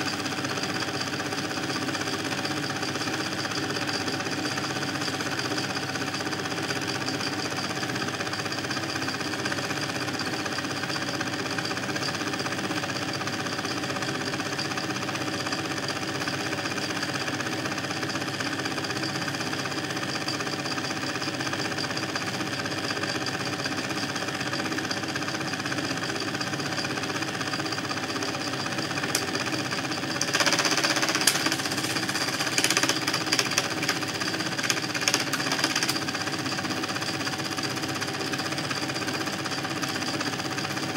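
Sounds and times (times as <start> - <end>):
film projector clattering: 0.0 - 40.9.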